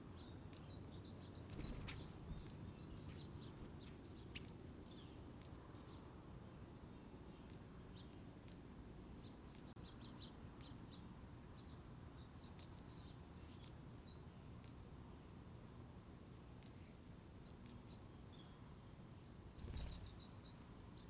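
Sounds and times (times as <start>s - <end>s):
faint high bird chirps: 0.0s - 6.2s, 6.9s - 8.2s, 9.2s - 14.4s, 16.6s - 21.0s
low background rumble: 0.0s - 21.0s.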